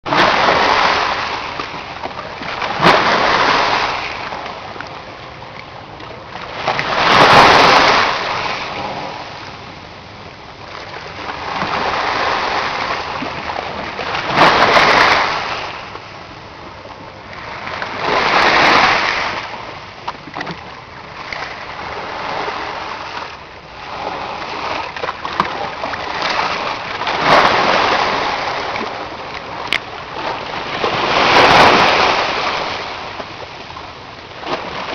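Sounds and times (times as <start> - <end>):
sea waves splashing: 0.0 - 34.9.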